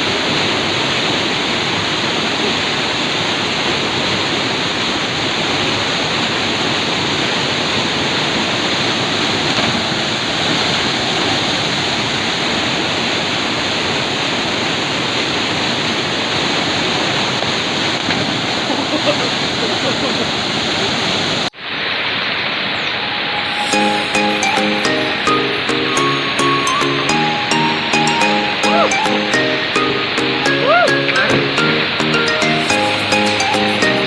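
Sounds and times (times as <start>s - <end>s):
river white water rushing: 0.0s - 34.0s.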